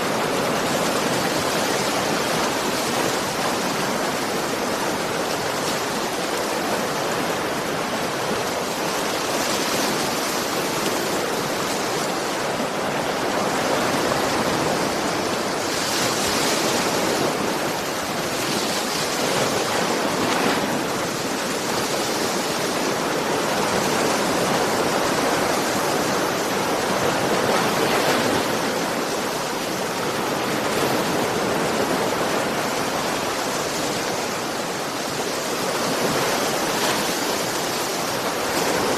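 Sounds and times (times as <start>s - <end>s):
ocean surf on shore: 0.0s - 38.9s.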